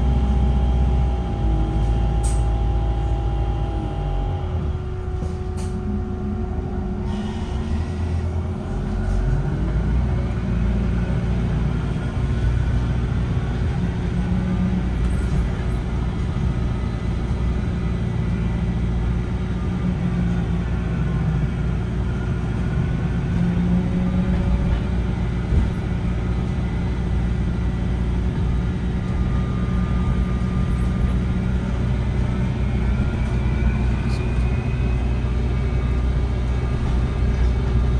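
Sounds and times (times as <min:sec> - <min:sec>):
bus engine rumbling: 0:00.0 - 0:37.9.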